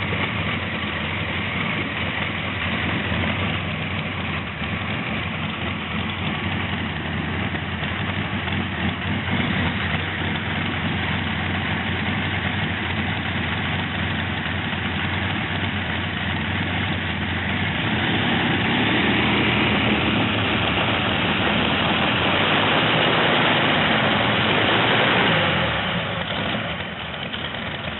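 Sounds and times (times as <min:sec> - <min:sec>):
tractor engine idling: 0:00.0 - 0:27.9.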